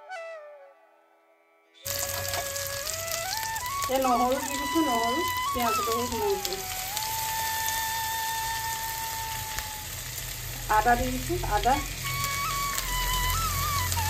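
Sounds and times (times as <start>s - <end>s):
soft background melody: 0.0s - 14.0s
food sizzling in oil: 1.9s - 14.0s
stirring in pan: 1.9s - 14.0s.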